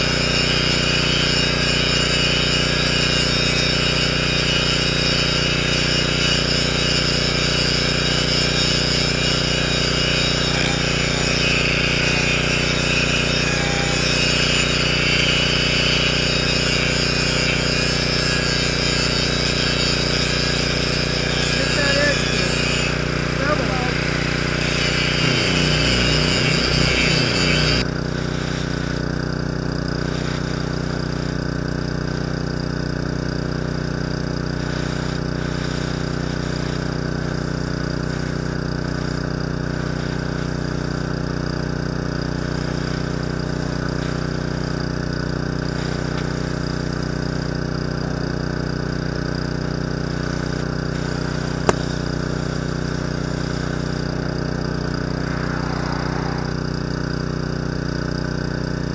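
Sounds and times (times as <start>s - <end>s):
engine idling: 0.0s - 58.9s.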